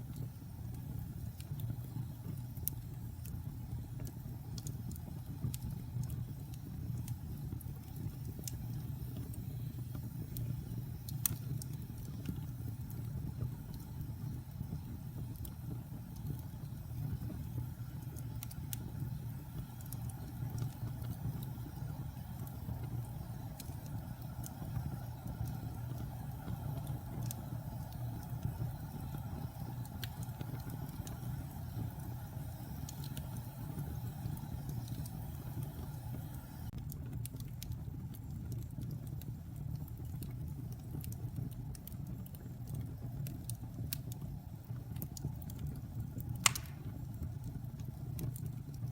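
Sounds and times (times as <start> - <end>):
fire flames rumbling: 0.0 - 48.9
wood fire crackles and pops: 0.0 - 48.9.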